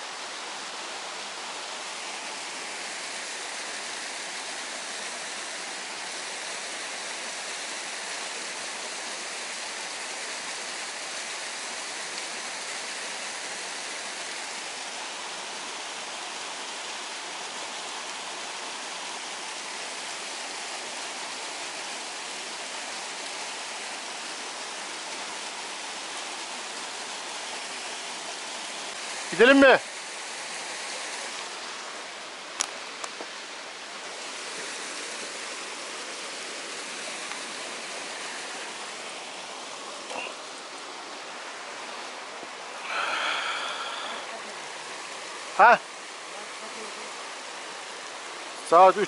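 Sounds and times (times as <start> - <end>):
flowing water rushing: 0.0 - 49.0.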